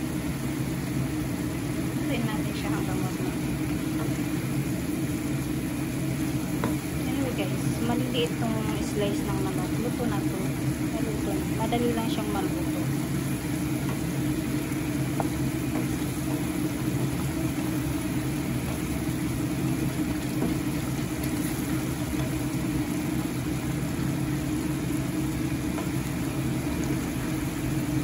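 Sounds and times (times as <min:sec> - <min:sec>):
curry simmering in a pan: 0:00.0 - 0:28.0
low mechanical hum: 0:00.0 - 0:28.0.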